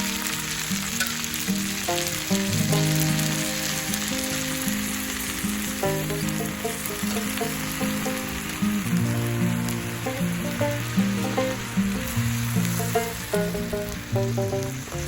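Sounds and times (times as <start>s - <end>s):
food sizzling in a pan: 0.0s - 15.0s
instrumental background music: 0.0s - 15.0s.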